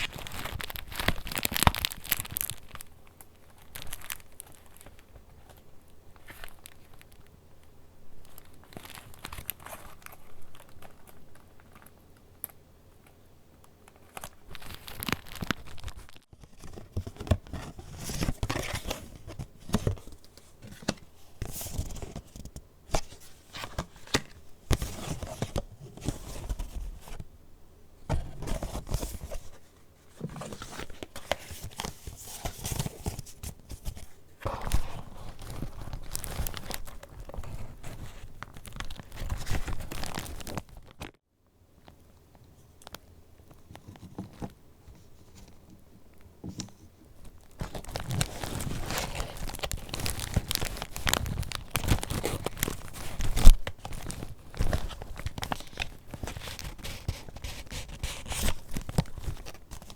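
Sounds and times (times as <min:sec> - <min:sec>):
paper pages crinkling and rustling: 0:00.0 - 0:07.2, 0:08.2 - 0:12.6, 0:13.9 - 0:27.3, 0:28.1 - 0:41.2, 0:46.4 - 0:59.9.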